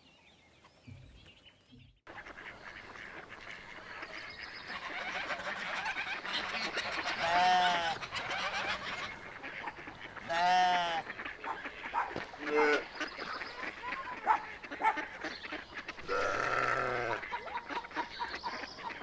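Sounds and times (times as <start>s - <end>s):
chatter of small bird calls: 0.6s - 19.0s.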